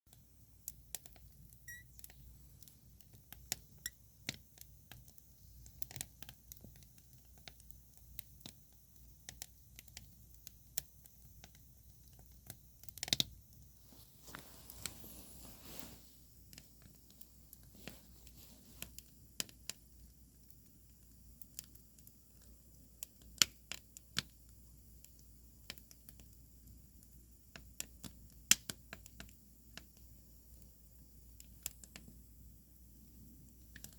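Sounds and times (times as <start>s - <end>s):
low hiss: 0.1s - 33.9s
wood fire crackling: 0.1s - 33.9s.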